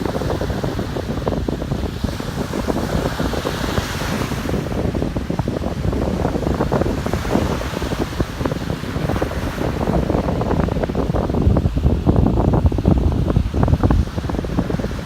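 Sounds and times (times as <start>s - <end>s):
ocean surf on a beach: 0.0s - 15.0s
wind buffeting the microphone: 0.0s - 15.0s.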